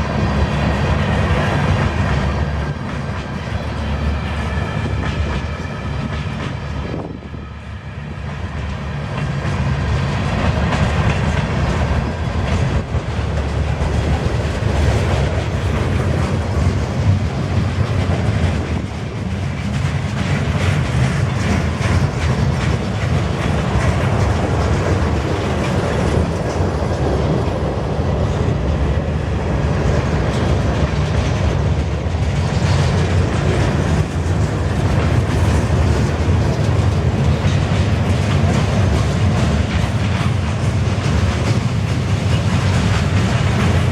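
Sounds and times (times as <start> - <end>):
train cars rumbling past: 0.0 - 43.9
wheels clicking over rail joints: 8.2 - 43.9.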